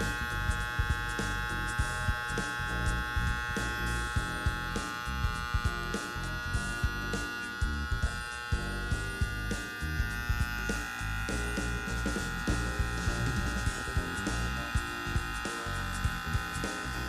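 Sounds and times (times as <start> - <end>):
background music with beat: 0.0 - 17.0
hair trimmer buzzing: 0.0 - 17.0.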